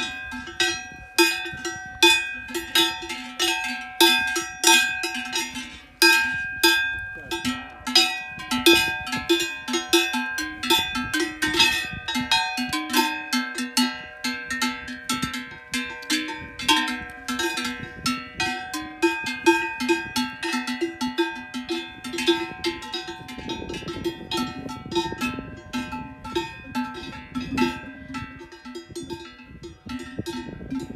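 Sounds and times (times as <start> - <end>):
cattle bells clanking: 0.0 - 30.9.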